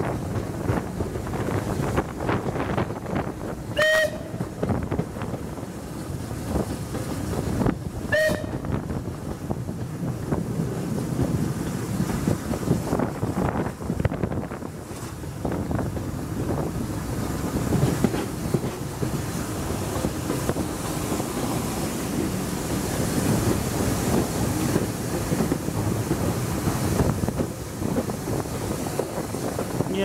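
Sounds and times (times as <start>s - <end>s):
steam train running: 0.0s - 30.0s
wind buffeting microphone: 0.0s - 30.0s.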